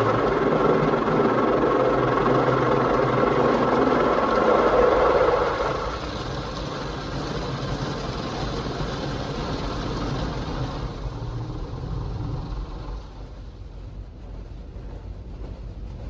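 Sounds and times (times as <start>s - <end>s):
car engine idling: 0.0s - 14.0s
car wash machinery and spray: 0.0s - 16.0s.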